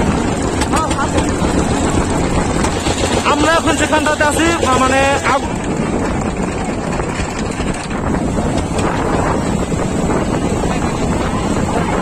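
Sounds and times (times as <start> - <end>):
boat running: 0.0 - 12.0
wind buffeting microphone: 0.0 - 12.0.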